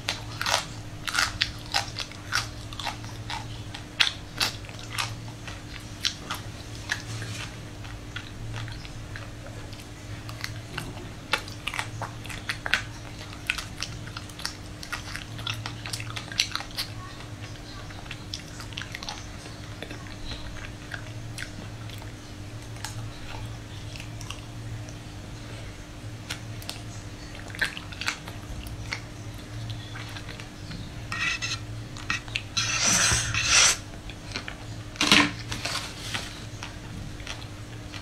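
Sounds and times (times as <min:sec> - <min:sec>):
chewing ice cream bar: 0:00.0 - 0:31.0, 0:36.4 - 0:38.0
low steady hum: 0:00.0 - 0:38.0.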